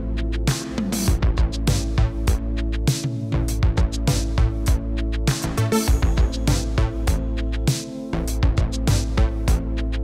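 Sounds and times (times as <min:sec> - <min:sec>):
steady drum beat: 0:00.5 - 0:09.6.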